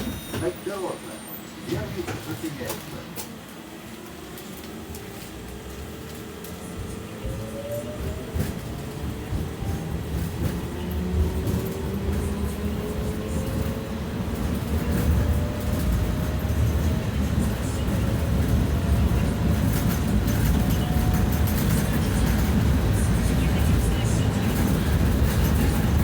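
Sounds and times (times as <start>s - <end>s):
tram motor whine rising: 0.0s - 26.0s
wheels rumbling on rails: 0.0s - 26.0s.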